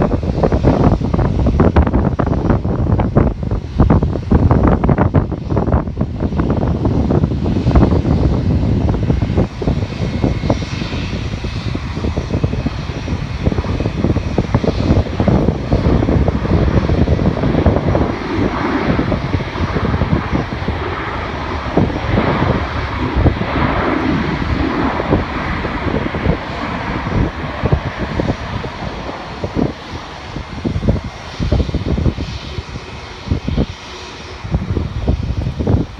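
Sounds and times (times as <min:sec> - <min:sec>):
jet engines running: 0:00.0 - 0:35.9
wind buffeting microphone: 0:00.0 - 0:35.9.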